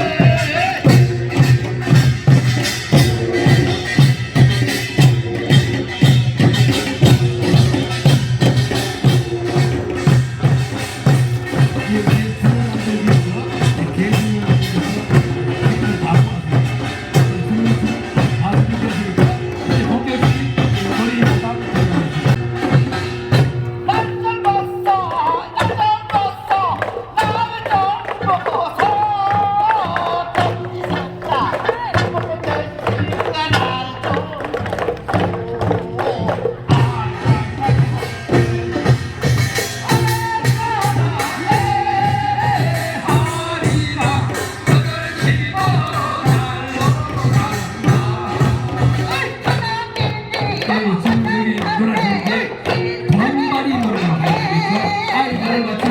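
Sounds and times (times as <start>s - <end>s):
percussion beat: 0.0s - 55.9s
voices singing: 0.0s - 55.9s.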